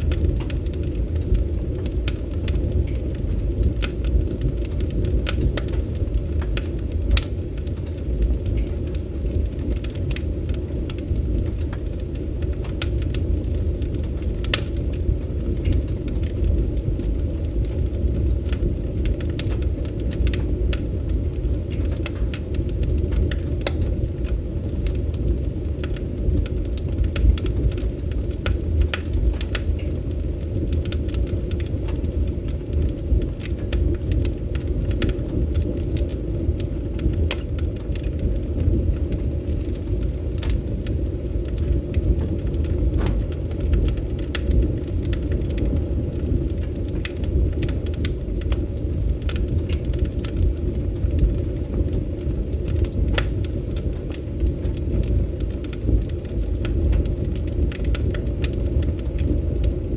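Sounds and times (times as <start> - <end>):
fire crackling and popping: 0.0 - 59.9
fireplace fire rumbling: 0.0 - 59.9.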